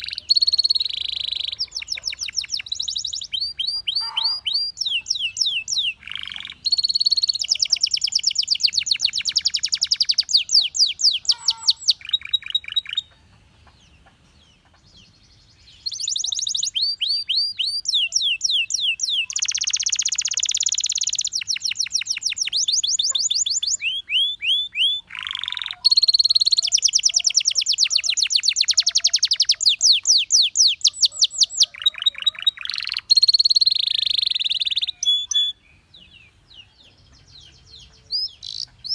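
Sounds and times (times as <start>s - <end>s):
canary singing trilled phrases: 0.0s - 38.9s.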